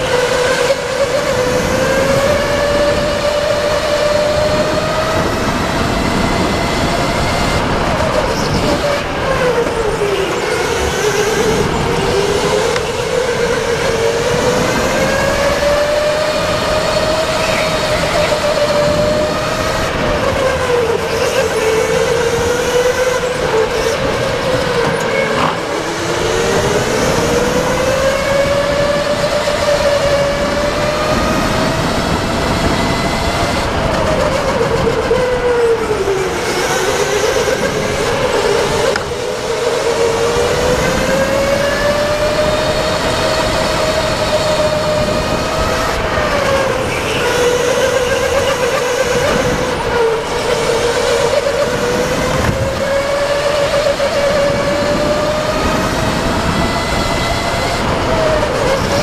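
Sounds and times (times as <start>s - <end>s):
go-kart motor running: 0.0s - 59.0s.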